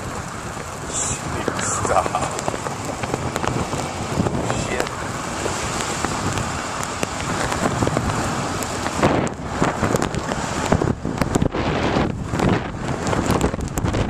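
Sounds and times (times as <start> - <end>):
sharp crackles: 0.0 - 14.0
tyres rolling through snow: 0.0 - 14.0
wind buffeting a microphone: 0.0 - 14.0.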